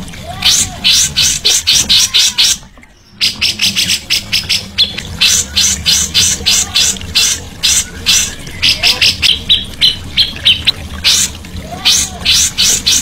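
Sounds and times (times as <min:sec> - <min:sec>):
songbird rasping chatter: 0:00.5 - 0:11.3.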